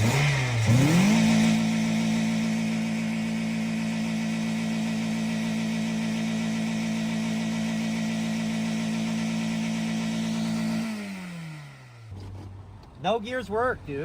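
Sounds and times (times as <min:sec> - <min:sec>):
car engine revving: 0:00.0 - 0:12.7.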